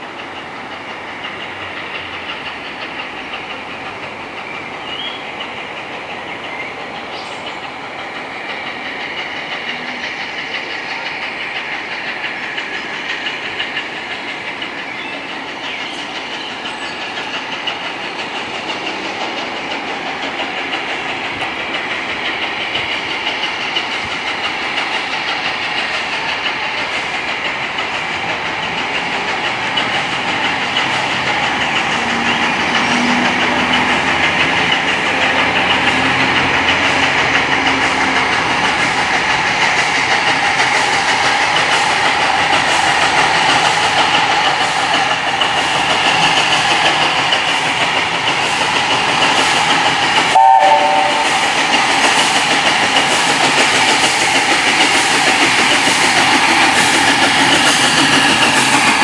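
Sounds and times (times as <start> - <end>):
steam locomotive approaching: 0.0 - 59.0.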